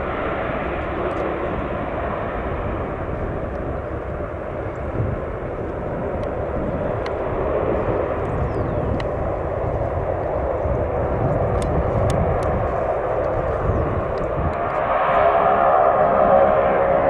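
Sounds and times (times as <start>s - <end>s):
distant turboprop engines droning: 0.0s - 17.0s.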